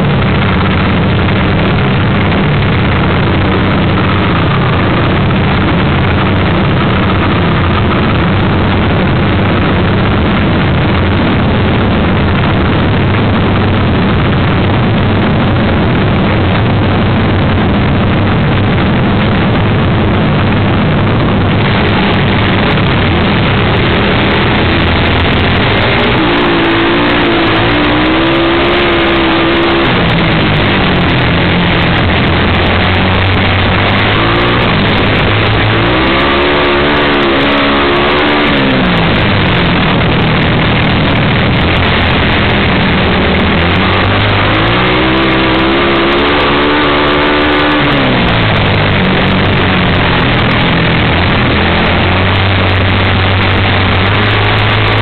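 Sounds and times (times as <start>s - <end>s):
motorcycle engines racing: 0.0s - 55.0s.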